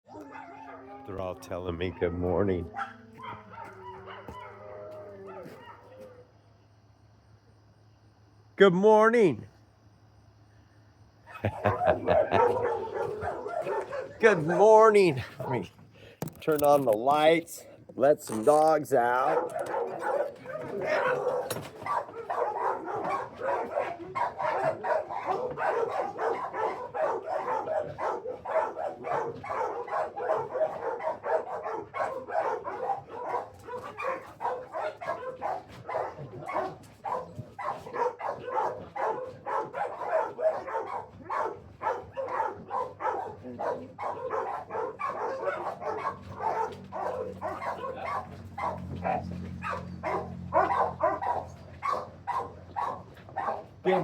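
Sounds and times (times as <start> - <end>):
dogs barking: 0.1 - 6.3, 11.2 - 15.8, 18.4 - 54.0.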